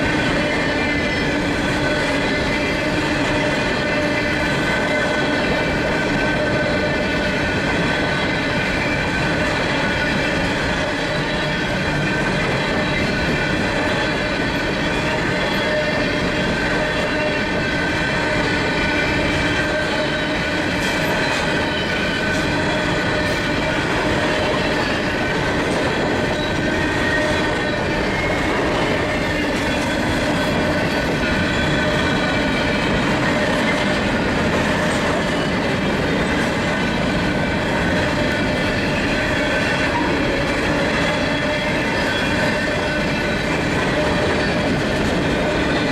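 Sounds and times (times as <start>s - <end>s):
high-pitched wheel squeal: 0.0s - 45.9s
train wheels on rails: 0.0s - 45.9s.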